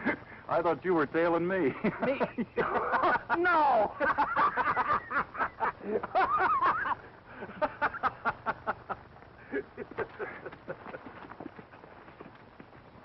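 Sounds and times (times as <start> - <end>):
men laughing heartily: 0.0 - 0.4, 1.7 - 11.9.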